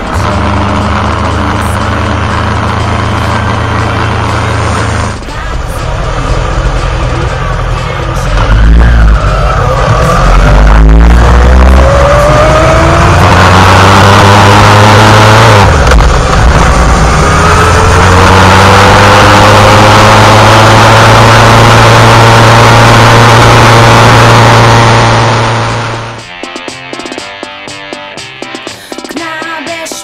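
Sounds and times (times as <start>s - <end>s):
motorcycle engine accelerating: 0.0s - 26.3s.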